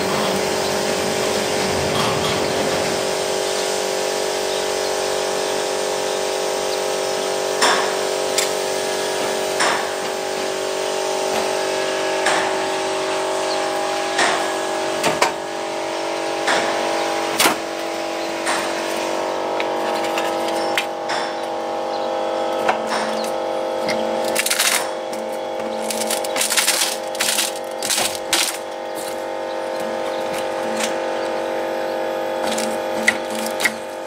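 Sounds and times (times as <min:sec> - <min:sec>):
sawmill motor humming: 0:00.0 - 0:34.0.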